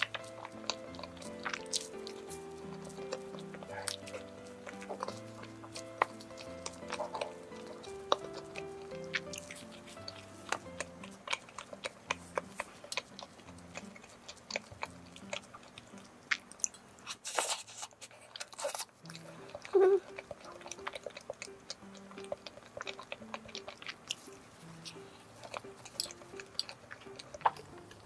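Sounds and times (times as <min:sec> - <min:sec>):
soft background music: 0:00.0 - 0:17.4, 0:18.3 - 0:28.0
biting and chewing: 0:00.0 - 0:28.0.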